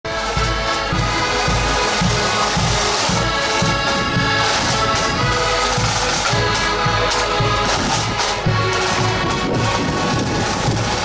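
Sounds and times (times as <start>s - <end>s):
accordions playing sustained chords: 0.1s - 11.0s
bass drum beat: 0.1s - 11.0s
drums rattling: 0.1s - 11.0s.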